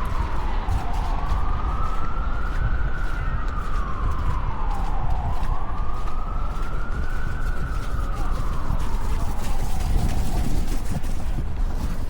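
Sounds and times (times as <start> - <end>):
siren wailing: 0.0 - 11.9.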